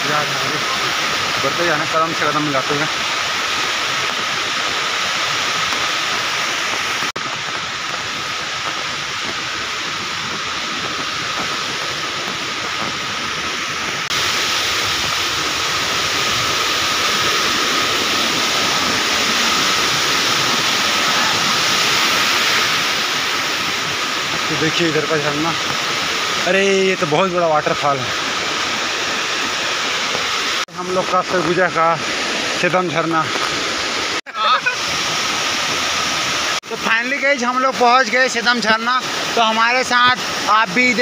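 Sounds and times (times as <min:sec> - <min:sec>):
stream and waterfall rushing: 0:00.0 - 0:41.0.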